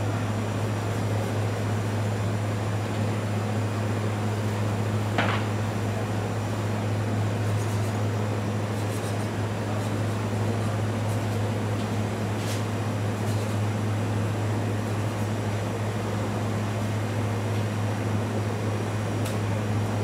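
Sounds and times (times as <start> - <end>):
machine hum with hiss: 0.0 - 20.0.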